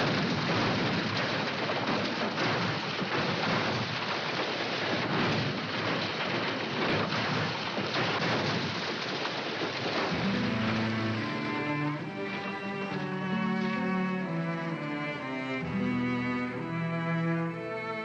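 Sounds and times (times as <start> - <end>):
car tumbling down dirt slope: 0.0 - 16.4.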